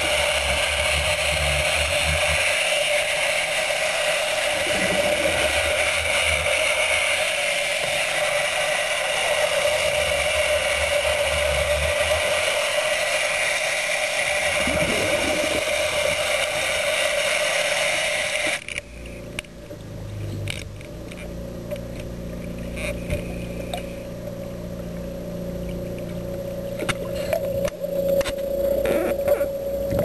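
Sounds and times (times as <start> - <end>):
underwater chainsaw whine: 0.0 - 30.0.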